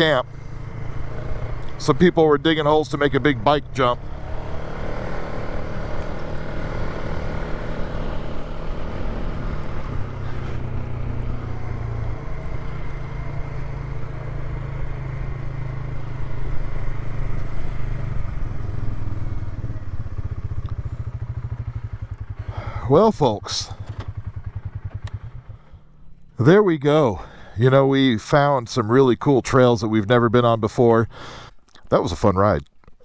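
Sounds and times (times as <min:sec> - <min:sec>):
atv engine running: 0:00.0 - 0:31.5.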